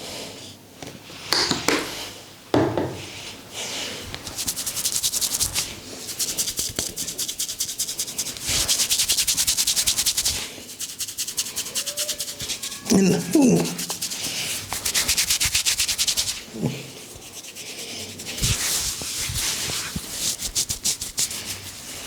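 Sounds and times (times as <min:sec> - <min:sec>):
hands rubbing hair and scalp: 0:03.0 - 0:22.0.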